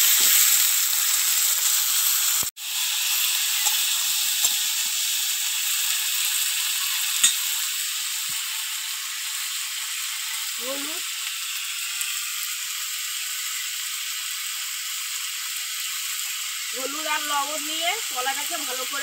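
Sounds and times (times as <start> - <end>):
banana sizzling in hot oil: 0.0 - 19.0.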